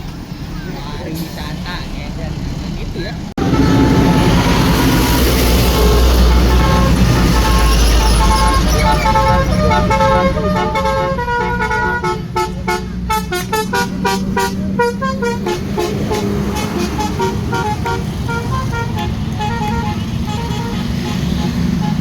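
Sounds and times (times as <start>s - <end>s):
bus engine running: 0.0s - 22.0s
multi-tone bus horn tune: 3.4s - 22.0s.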